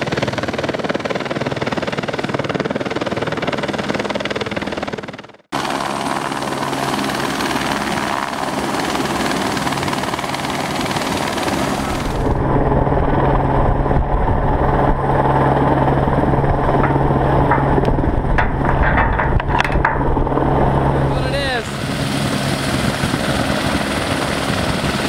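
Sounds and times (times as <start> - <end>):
helicopter rotor and turbine: 0.0 - 25.0.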